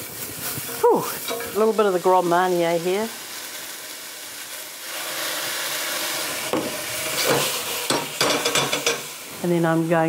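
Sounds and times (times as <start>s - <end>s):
pears sizzling in oil: 0.0s - 10.0s.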